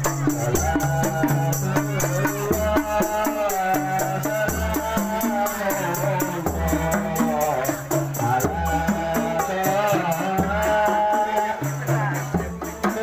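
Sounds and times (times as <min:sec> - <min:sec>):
devotional singing: 0:00.0 - 0:13.0
frame drums with jingles: 0:00.0 - 0:13.0.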